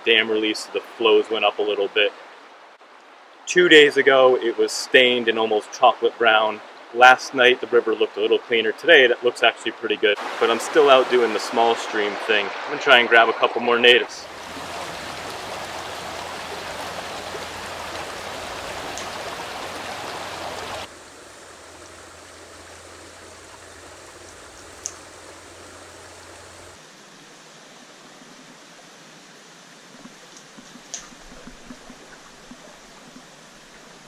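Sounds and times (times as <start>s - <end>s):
stream running over rocks: 0.0s - 34.0s.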